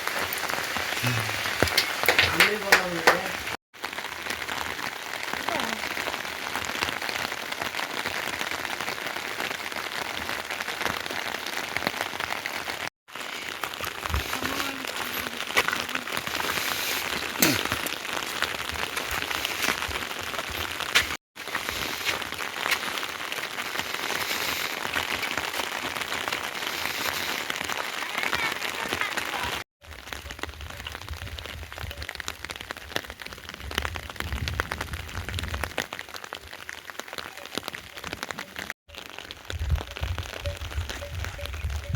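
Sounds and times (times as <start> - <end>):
rain pattering: 0.0 - 41.9.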